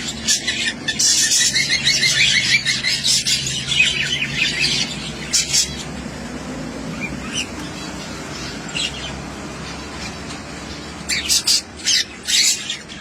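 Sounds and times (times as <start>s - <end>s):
zebra finches chirping: 0.0s - 13.0s.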